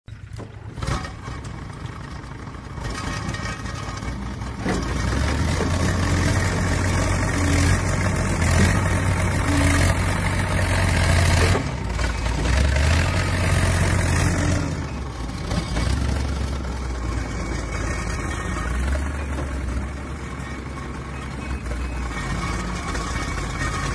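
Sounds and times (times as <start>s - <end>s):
backhoe diesel engine working: 0.1s - 23.9s.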